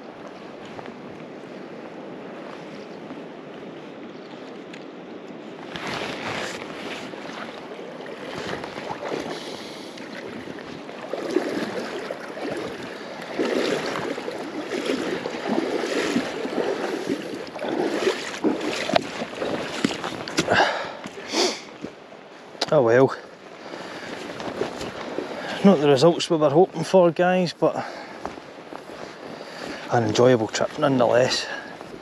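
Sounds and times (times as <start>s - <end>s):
river water rushing: 5.1s - 32.0s.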